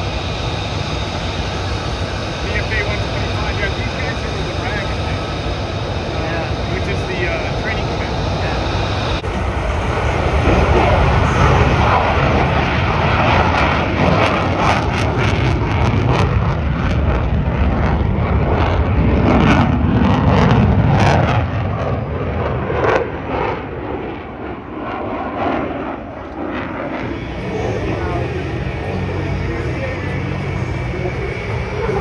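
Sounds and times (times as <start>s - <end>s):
fighter jet engine roar: 0.0s - 32.0s.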